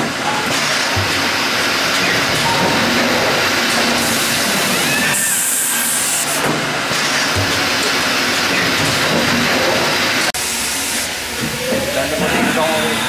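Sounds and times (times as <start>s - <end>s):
machinery hissing and running: 0.0s - 13.0s.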